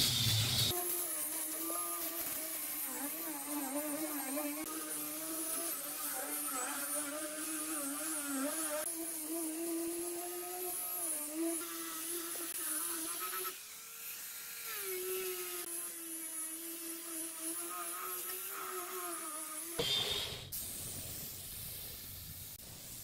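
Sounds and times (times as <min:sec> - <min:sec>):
angle grinder sanding wood: 0:00.0 - 0:19.8.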